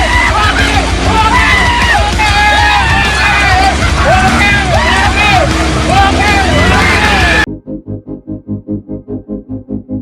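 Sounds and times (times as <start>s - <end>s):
loud dense music: 0.0s - 10.0s.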